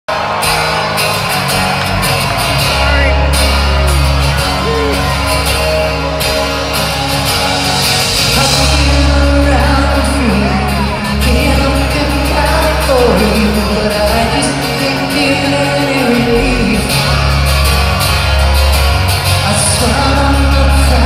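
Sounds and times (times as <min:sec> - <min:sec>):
crowd voices: 0:00.1 - 0:21.0
live rock band: 0:00.1 - 0:21.0.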